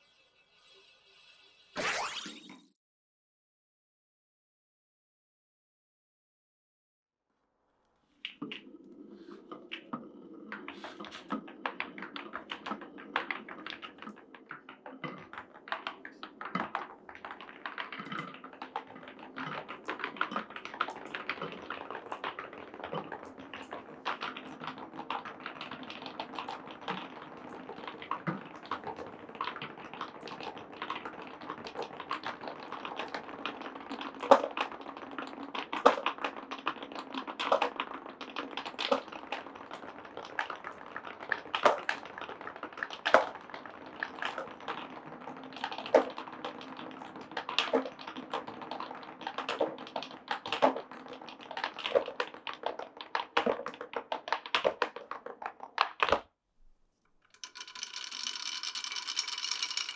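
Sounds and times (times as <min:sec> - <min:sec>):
marbles rolling on wooden track: 0:08.2 - 0:56.2, 0:57.2 - 0:59.9
marbles clicking on wooden track: 0:08.2 - 0:56.3, 0:57.2 - 0:59.9.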